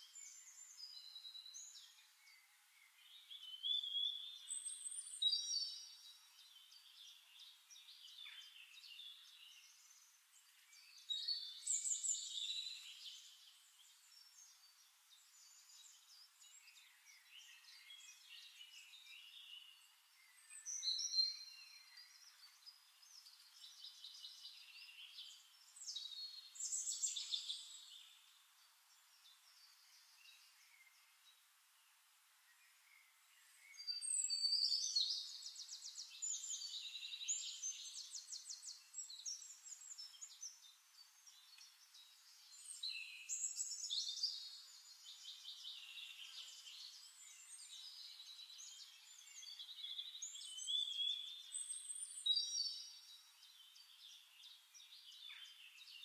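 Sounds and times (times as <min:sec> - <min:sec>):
birds chirping and singing: 0:00.0 - 0:31.4, 0:32.6 - 0:56.0.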